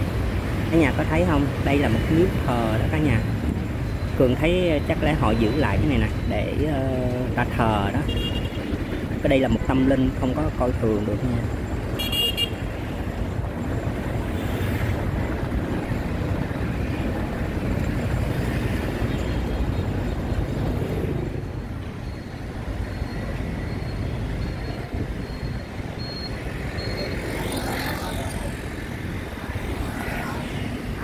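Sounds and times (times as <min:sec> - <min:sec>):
cars and motorbikes passing: 0:00.0 - 0:31.0
road roller engine rumble: 0:00.0 - 0:31.0.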